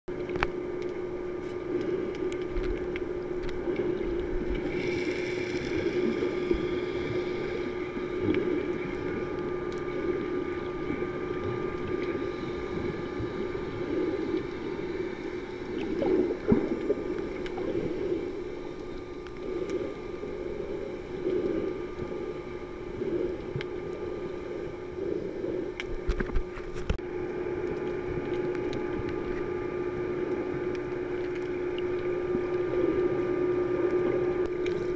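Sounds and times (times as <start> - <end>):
muffled underwater water movement: 0.1 - 34.9
steady low hum: 0.1 - 34.9.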